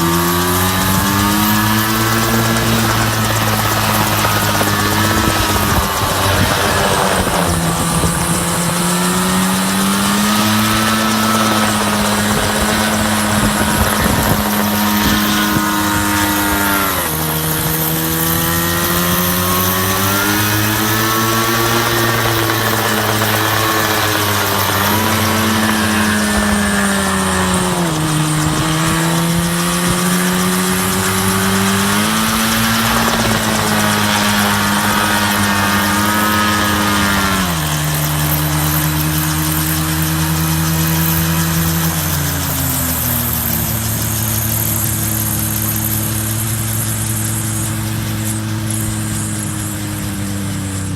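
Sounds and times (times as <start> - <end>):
small engine running loudly: 0.0 - 50.9.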